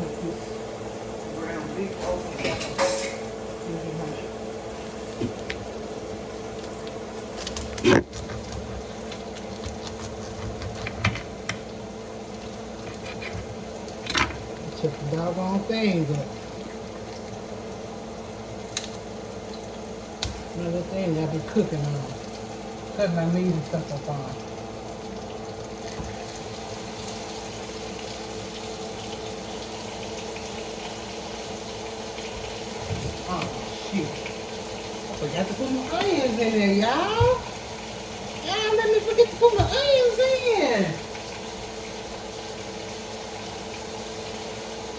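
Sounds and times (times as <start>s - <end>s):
appliance hum: 0.0s - 44.9s.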